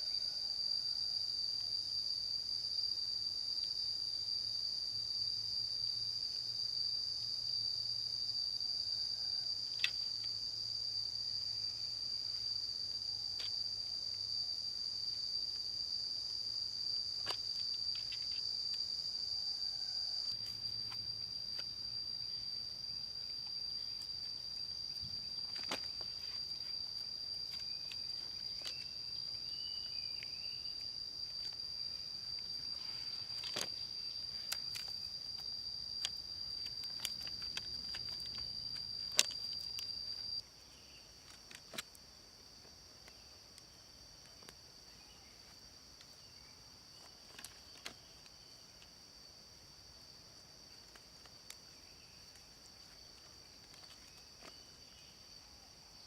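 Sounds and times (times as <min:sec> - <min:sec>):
crickets droning: 0:00.0 - 0:56.0.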